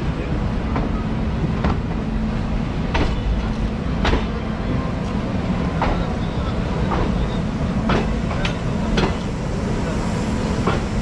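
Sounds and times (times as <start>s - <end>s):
rail joint clacks: 0.0s - 11.0s
train wheels rumbling on rails: 0.0s - 11.0s.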